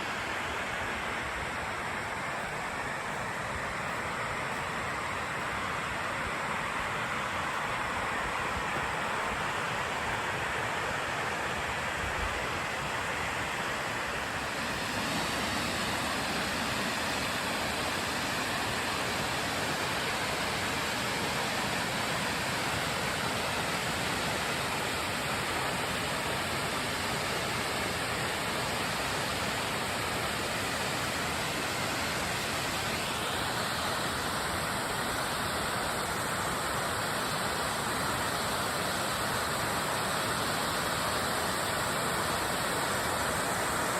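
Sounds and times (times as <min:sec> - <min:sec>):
waterfall roaring: 0:00.0 - 0:43.9.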